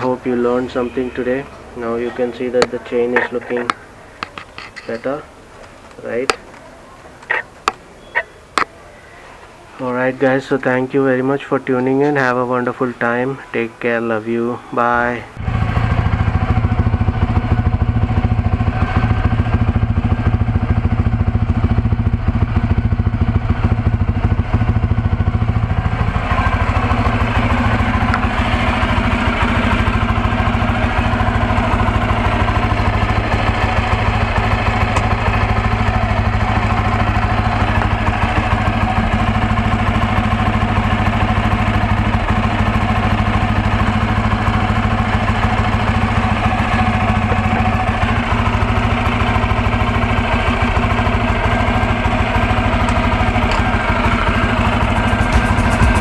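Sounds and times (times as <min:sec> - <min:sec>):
motorcycle engine idling: 0:00.0 - 0:09.0, 0:15.4 - 0:56.0.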